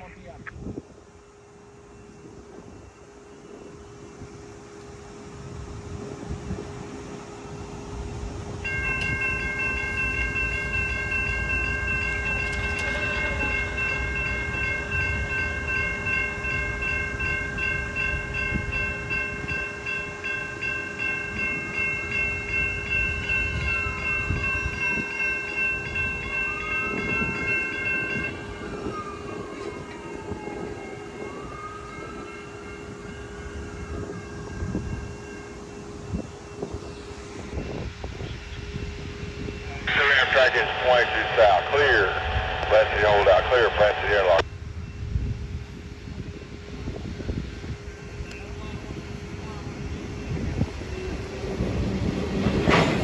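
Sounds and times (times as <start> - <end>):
railroad crossing bell ringing: 1.1 - 5.5, 6.6 - 51.8.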